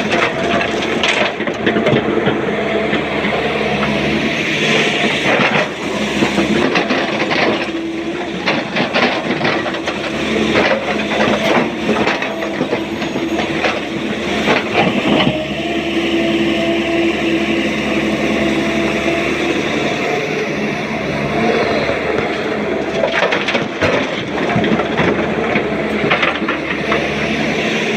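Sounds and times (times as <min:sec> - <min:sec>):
excavator engine and hydraulics: 0:00.0 - 0:27.9.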